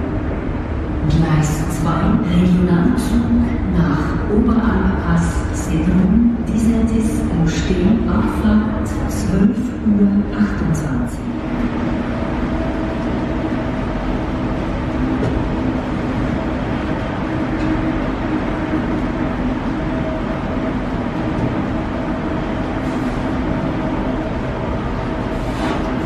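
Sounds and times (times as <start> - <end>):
moving walkway mechanical hum: 0.0 - 26.0.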